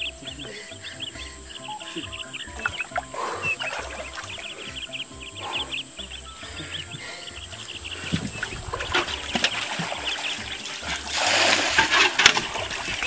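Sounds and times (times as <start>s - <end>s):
wild animal calls: 0.0s - 11.2s
background music: 0.0s - 13.0s
high chirps: 0.0s - 13.0s
water splashing: 0.0s - 13.0s.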